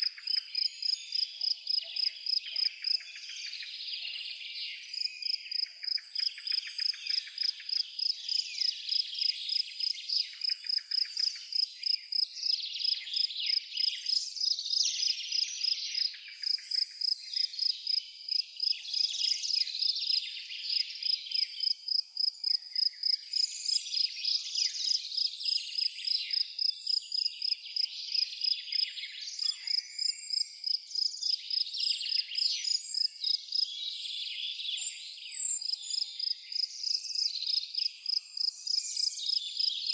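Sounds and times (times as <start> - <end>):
cricket chirping: 0.0 - 3.8, 4.9 - 33.7, 35.4 - 39.9
songbirds calling and twittering: 0.0 - 39.9.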